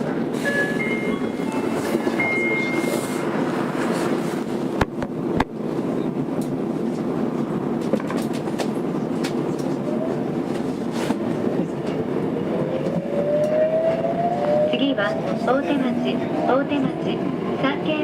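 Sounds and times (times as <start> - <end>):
subway car rumble: 0.0 - 18.0.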